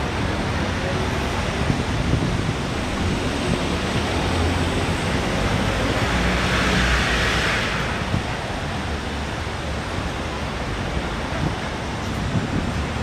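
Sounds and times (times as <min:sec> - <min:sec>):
street traffic on wet road: 0:00.0 - 0:13.0
wind rumbling on microphone: 0:00.0 - 0:13.0.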